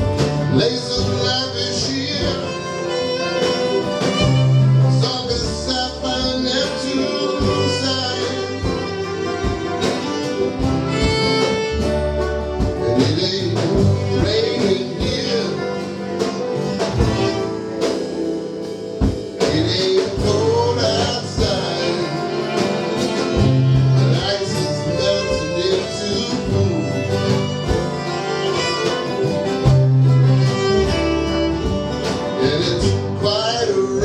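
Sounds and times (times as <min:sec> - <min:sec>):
fiddle: 0:00.0 - 0:34.0
guitar: 0:00.0 - 0:34.0.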